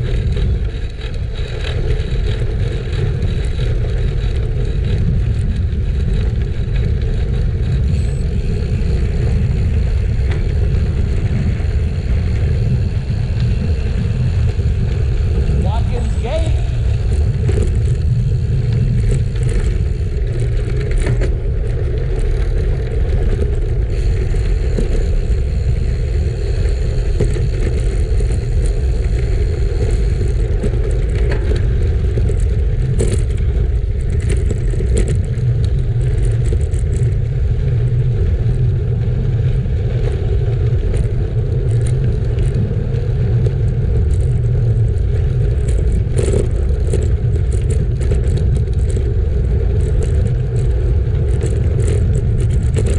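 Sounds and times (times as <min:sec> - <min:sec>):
bike clicks and rattles: 0:00.0 - 0:52.9
wind on microphone: 0:00.0 - 0:52.9.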